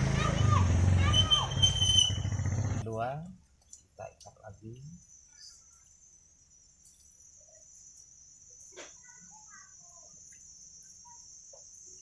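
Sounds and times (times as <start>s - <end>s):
insects trilling: 1.1s - 12.0s.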